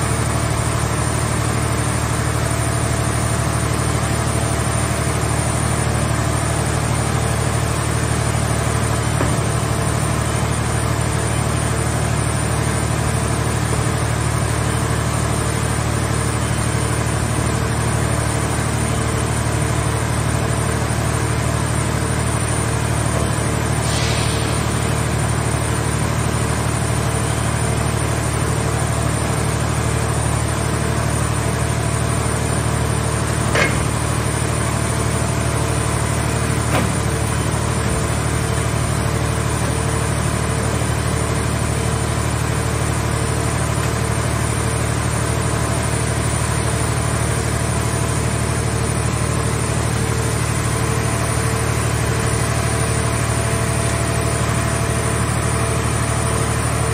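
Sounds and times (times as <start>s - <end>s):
hydraulic power unit humming: 0.0s - 56.9s.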